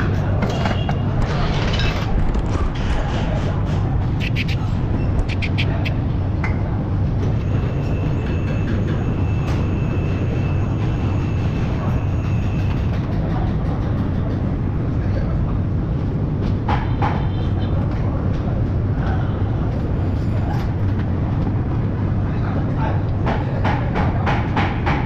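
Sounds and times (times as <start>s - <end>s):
workshop machinery rumble: 0.0s - 25.0s.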